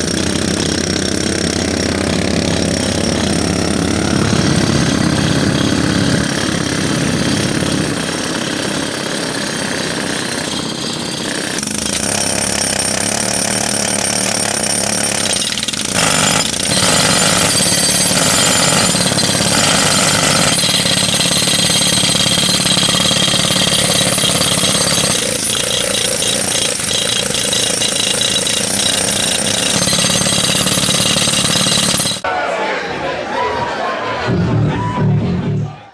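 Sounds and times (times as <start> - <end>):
jackhammers breaking concrete: 0.0 - 32.2.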